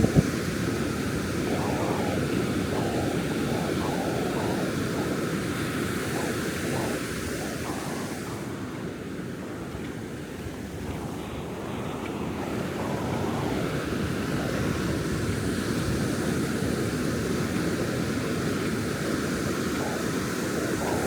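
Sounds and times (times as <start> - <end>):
ocean surf on beach: 0.0 - 21.0
wind on microphone: 0.0 - 21.0.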